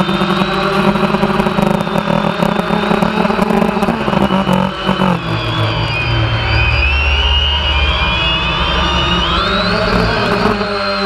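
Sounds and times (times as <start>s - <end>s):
drone motors buzzing: 0.0s - 11.0s.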